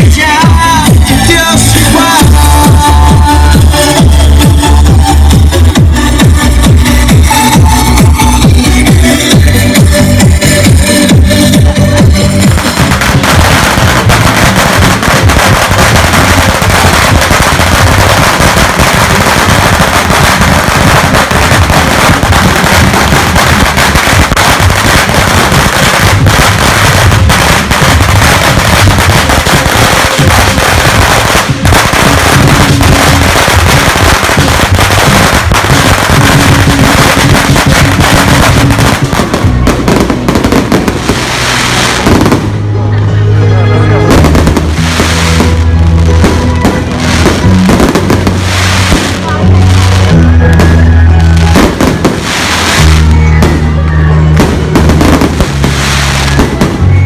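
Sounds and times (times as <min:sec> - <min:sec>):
firecrackers crackling: 0:00.0 - 0:43.2, 0:43.9 - 0:57.0
music: 0:00.0 - 0:57.0.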